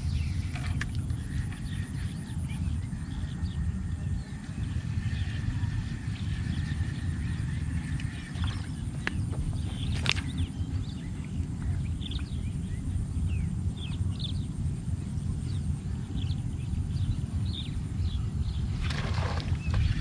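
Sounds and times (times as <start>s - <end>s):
small birds chirping: 0.0s - 20.0s
wind buffeting microphone: 0.0s - 20.0s.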